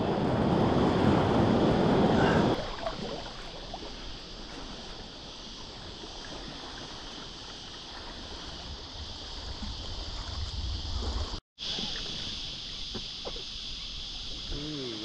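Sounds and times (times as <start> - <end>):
water lapping around raft: 0.0 - 15.0
high insect drone: 0.1 - 15.0.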